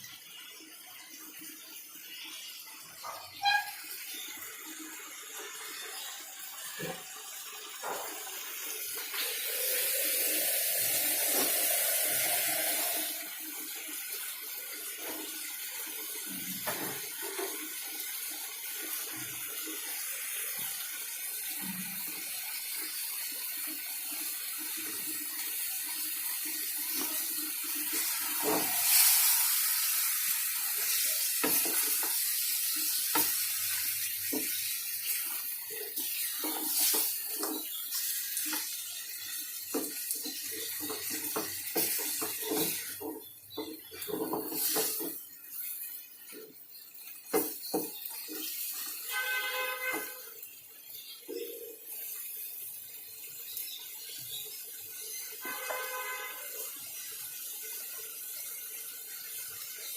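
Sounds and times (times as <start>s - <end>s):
tap water running into sink: 0.0s - 59.9s.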